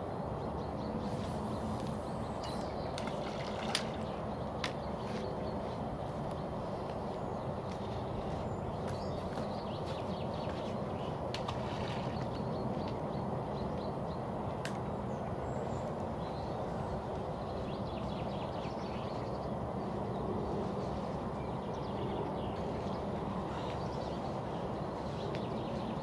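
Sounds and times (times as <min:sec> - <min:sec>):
small birds chirping: 0:00.4 - 0:26.0.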